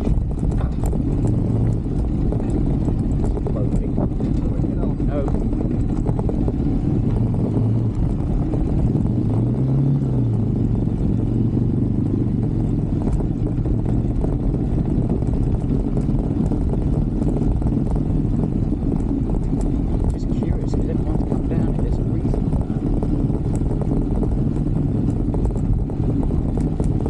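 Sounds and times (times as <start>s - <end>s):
motorbike engine running: 0.0s - 27.0s
wind rumble on microphone: 0.0s - 27.0s.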